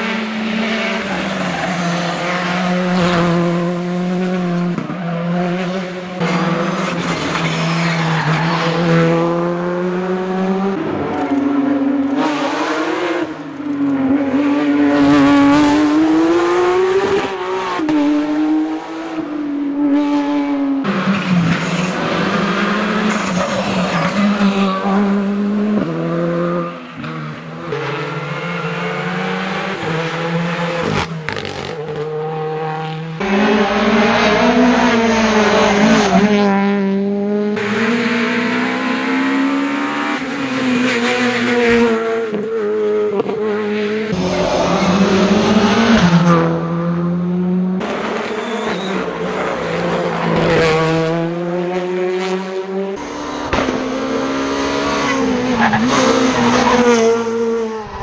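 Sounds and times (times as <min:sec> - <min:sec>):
engines revving through gear changes: 0:00.0 - 0:57.7
rally cars passing at full speed: 0:00.0 - 0:58.0.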